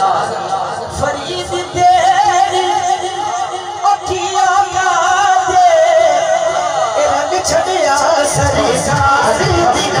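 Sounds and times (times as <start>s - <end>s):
person singing through sound system: 0.0s - 10.0s.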